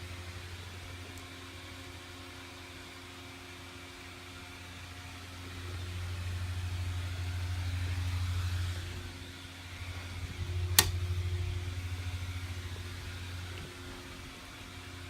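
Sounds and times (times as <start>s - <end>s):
electric blower fan humming: 0.0s - 15.0s.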